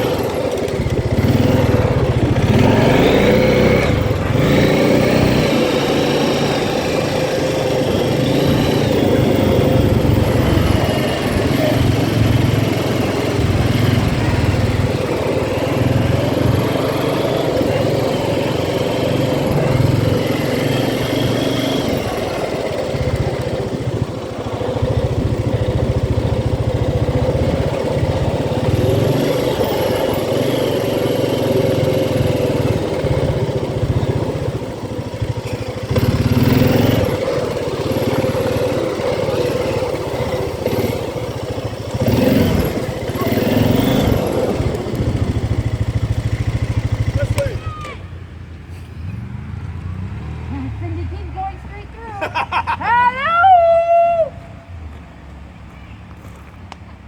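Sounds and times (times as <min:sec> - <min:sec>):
atv engine running: 0:00.0 - 0:53.7.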